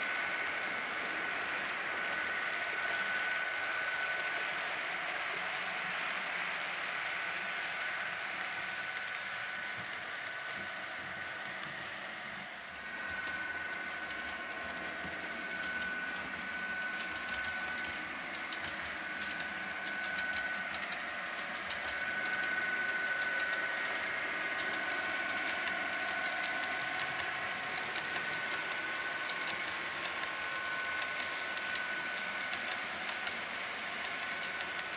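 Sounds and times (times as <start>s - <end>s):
model train motor whining: 0.0s - 34.9s
wheels ticking over track: 6.8s - 34.9s.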